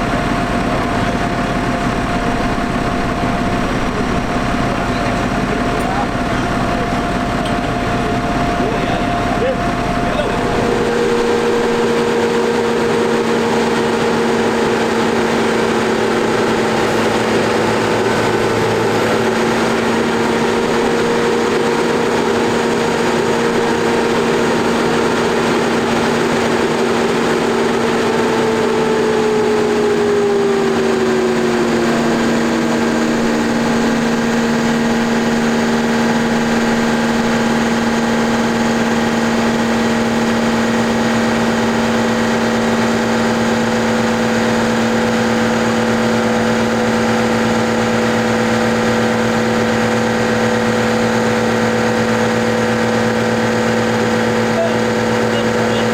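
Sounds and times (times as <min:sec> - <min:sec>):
tractor diesel engine droning: 0:00.0 - 0:55.9.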